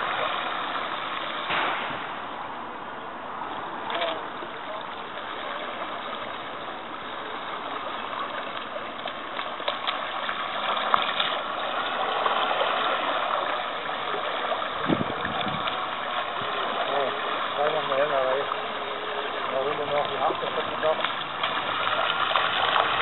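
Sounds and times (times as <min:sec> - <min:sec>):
boat wake rushing: 0:00.0 - 0:23.0.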